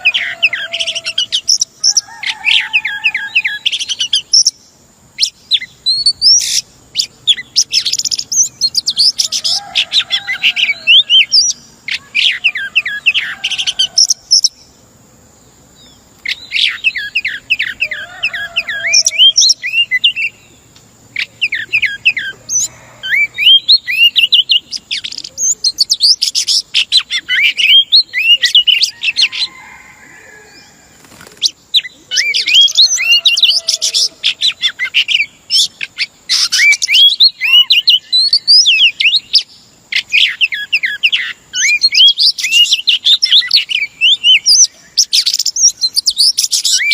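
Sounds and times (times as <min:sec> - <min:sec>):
bird singing whistles and chirps: 0:00.0 - 0:14.7, 0:15.8 - 0:20.5, 0:21.2 - 0:29.6, 0:31.3 - 0:46.9.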